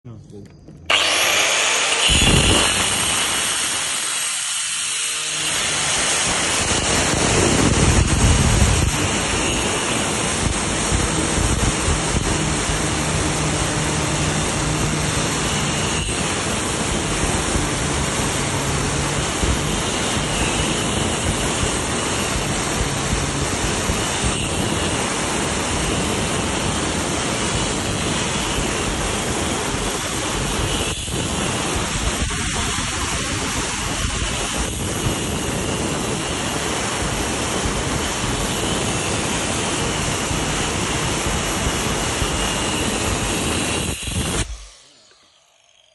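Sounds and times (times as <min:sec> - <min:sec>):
power saw cutting stone: 0:00.8 - 0:45.9.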